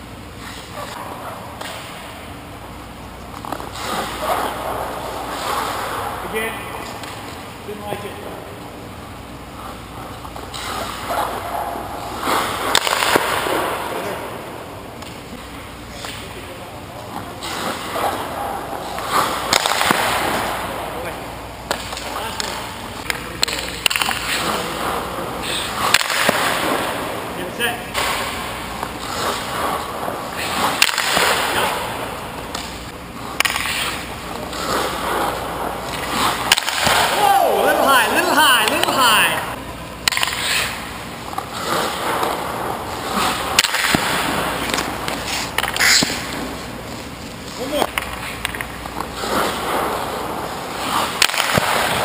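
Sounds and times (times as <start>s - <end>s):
skate blades scraping ice: 0.4s - 2.3s, 3.3s - 7.4s, 9.5s - 52.0s.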